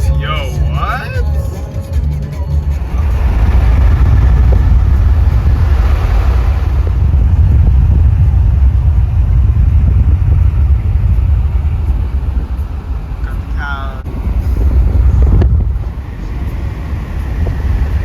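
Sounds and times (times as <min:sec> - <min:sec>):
road and wind noise in car: 0:00.0 - 0:18.0.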